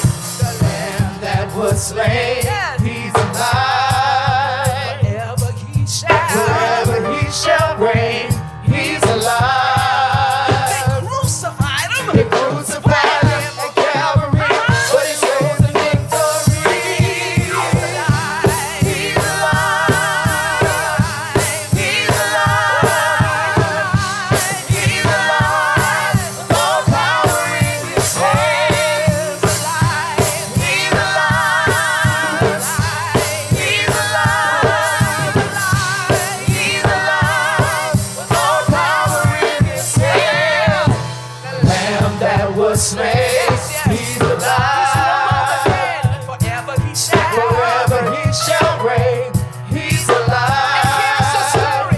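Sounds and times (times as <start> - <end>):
band with bass and drums: 0.0 - 51.9
worship team singing: 0.0 - 51.9.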